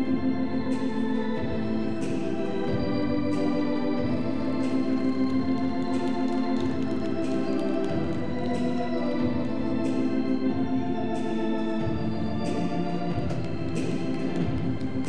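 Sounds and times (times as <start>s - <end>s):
organ playing foxtrot chords: 0.0s - 15.0s.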